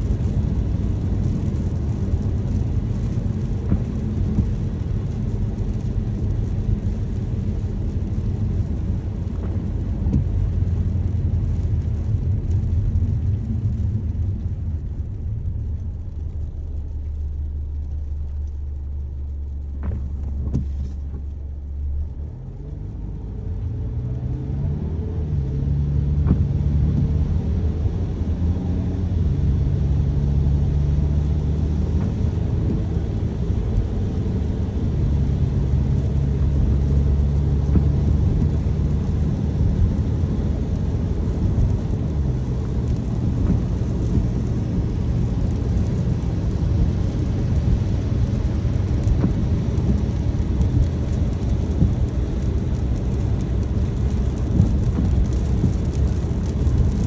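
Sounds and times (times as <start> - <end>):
rain on car: 0.0 - 57.0
road and engine rumble: 0.0 - 57.0.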